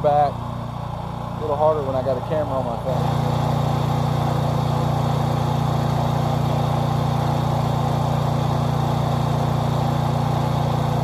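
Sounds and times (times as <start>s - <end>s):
pressure washer gas engine: 0.0s - 11.0s.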